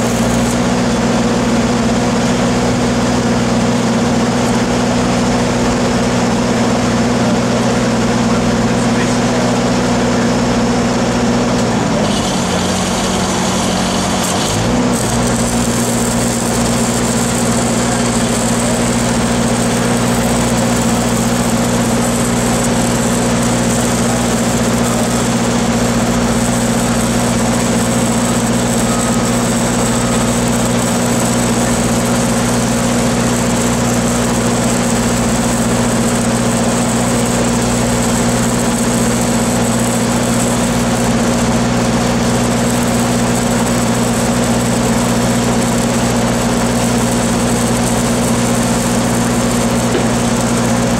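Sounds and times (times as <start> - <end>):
welding hiss and crackle: 0.0 - 6.4, 11.5 - 50.9.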